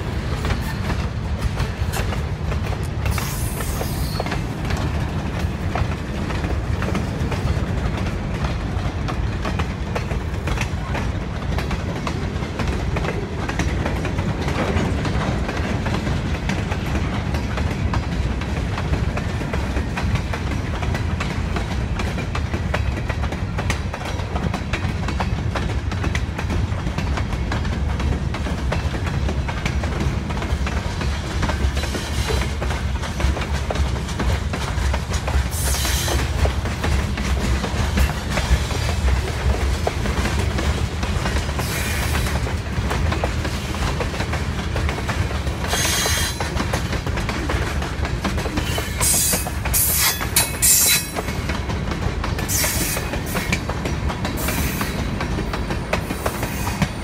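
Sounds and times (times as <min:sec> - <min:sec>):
freight train rolling past: 0:00.0 - 0:57.0
train wheels clicking over rail joints: 0:00.0 - 0:57.0.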